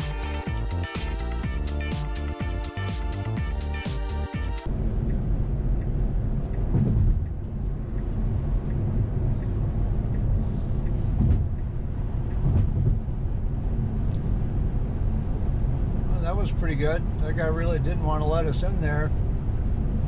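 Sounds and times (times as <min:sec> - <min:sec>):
road and tyre noise: 0:00.0 - 0:16.2.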